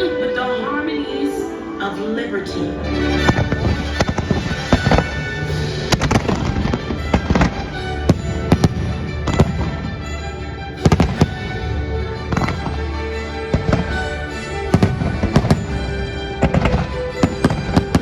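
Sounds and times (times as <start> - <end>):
music soundtrack: 0.0 - 18.0.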